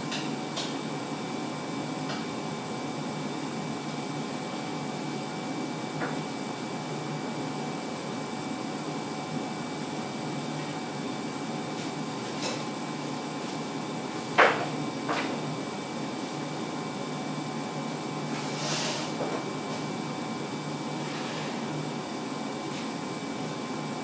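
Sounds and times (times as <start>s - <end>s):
laser engraver whir and hum: 0.0s - 24.0s.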